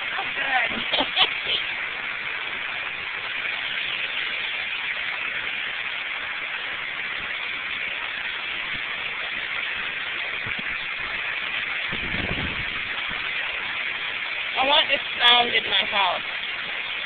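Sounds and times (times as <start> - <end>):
stream rushing over rocks: 0.0 - 17.0
water splashing from wooden flume: 0.0 - 17.0.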